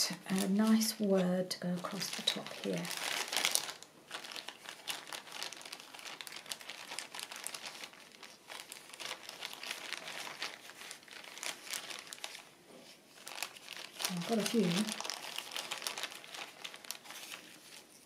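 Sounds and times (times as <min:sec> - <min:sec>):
paper crinkling and rustling: 0:00.0 - 0:01.0, 0:01.7 - 0:18.0.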